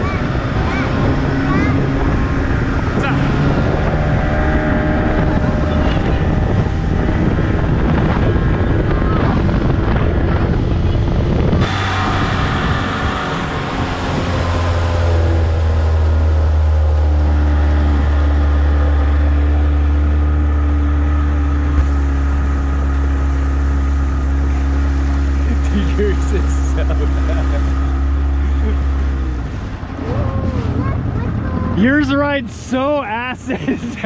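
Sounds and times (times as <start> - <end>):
outboard motor running: 0.0 - 34.0
wind and water rushing: 0.0 - 34.0.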